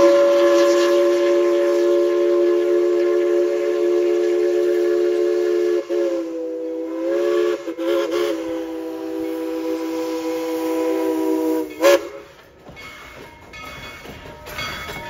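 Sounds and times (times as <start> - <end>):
steam whistle blast: 0.0 - 12.3.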